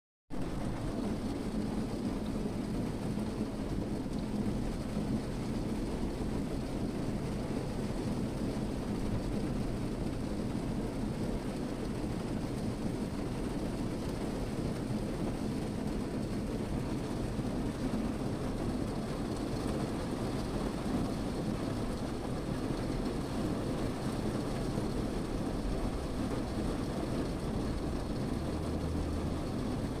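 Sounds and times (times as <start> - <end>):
rain patter on a car: 0.3 - 30.0.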